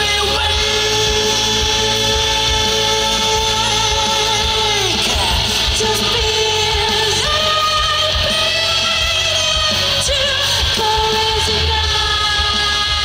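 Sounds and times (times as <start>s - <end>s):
loud rock music with beat: 0.0s - 13.0s
man singing rock song: 0.0s - 13.0s.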